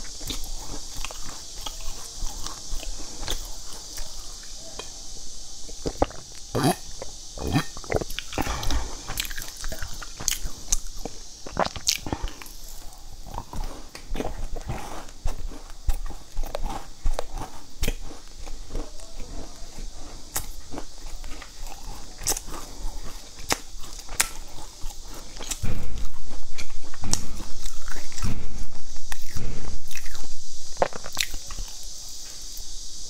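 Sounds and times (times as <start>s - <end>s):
person chewing crunchy pastry: 0.0s - 32.9s.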